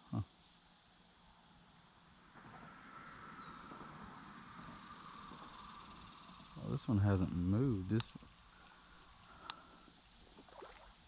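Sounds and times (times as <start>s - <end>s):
insects trilling: 0.0s - 11.0s
low insect buzz: 0.0s - 11.0s.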